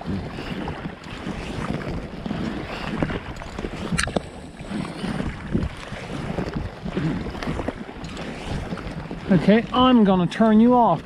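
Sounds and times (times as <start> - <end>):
water sloshing against raft: 0.0 - 11.0
wind on microphone: 0.0 - 11.0.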